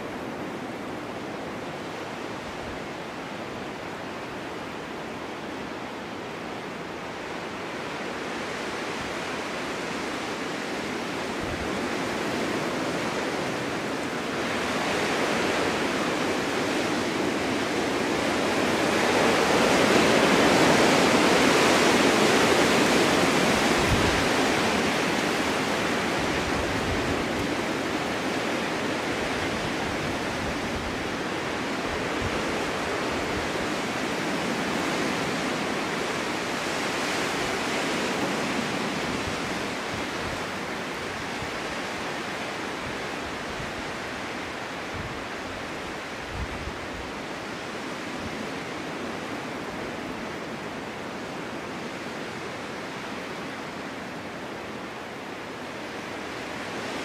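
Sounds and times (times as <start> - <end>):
storm wind blowing: 0.0 - 57.0.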